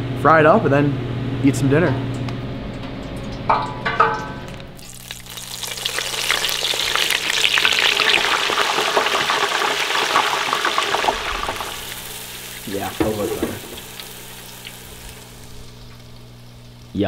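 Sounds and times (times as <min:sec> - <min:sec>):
oil crackling and sizzling: 0:02.2 - 0:17.0.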